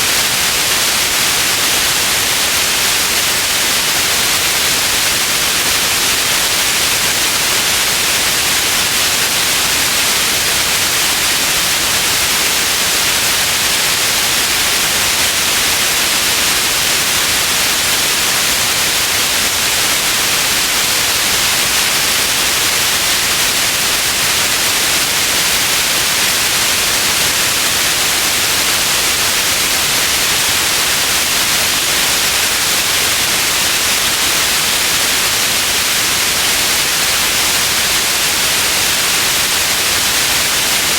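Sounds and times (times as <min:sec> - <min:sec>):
electronic white noise hiss: 0:00.0 - 0:40.9.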